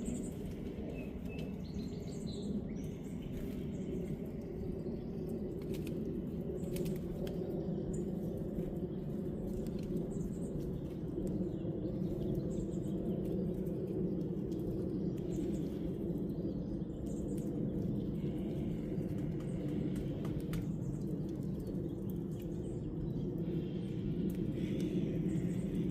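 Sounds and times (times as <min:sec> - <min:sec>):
low rumbling noise: 0:00.0 - 0:25.9.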